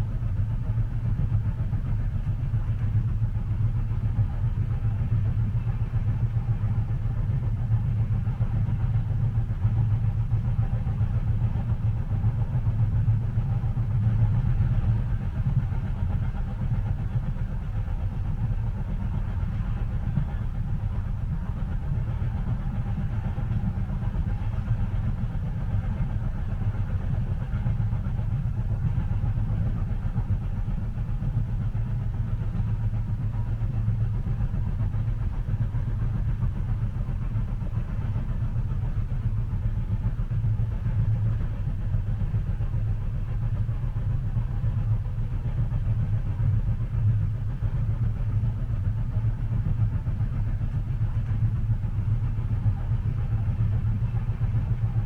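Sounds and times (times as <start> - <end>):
railway carriage rumble: 0.0 - 55.0.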